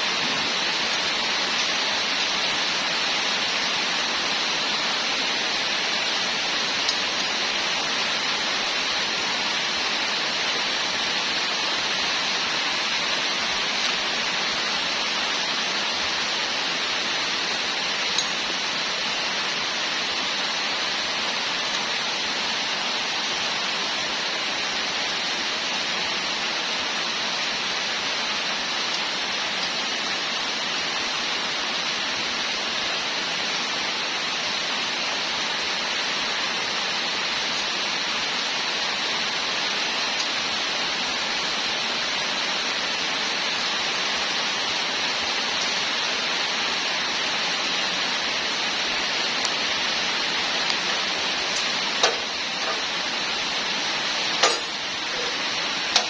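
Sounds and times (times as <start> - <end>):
steady rushing hiss: 0.0 - 56.0.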